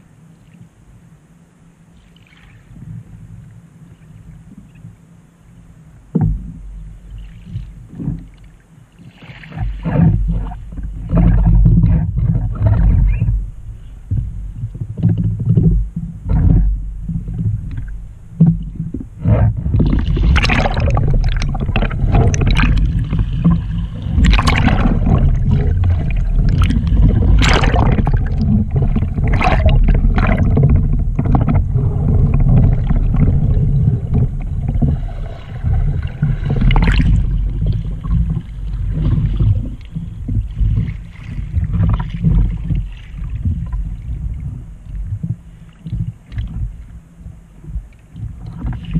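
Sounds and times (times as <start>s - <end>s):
wind rumbling on microphone: 1.9s - 48.9s
water splashing against hull: 2.0s - 48.9s
heavy splashing and churning water: 6.2s - 48.9s.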